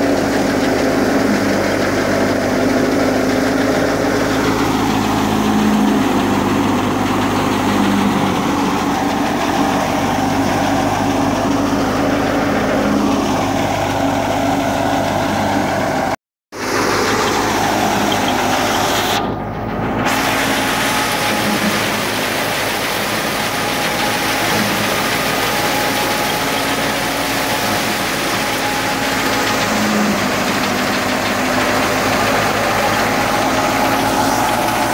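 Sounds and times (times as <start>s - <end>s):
threshing machinery running: 0.0s - 34.9s
tractor engine: 0.0s - 34.9s.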